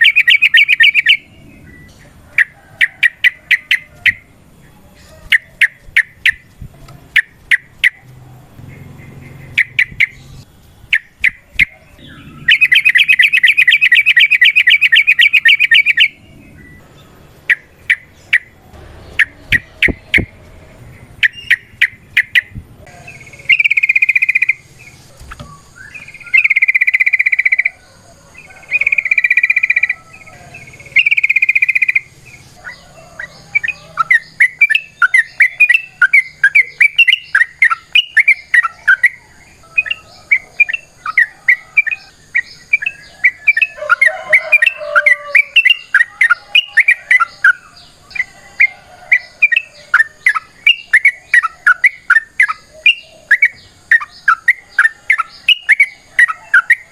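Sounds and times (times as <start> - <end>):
bird long notes: 7.1 - 56.9.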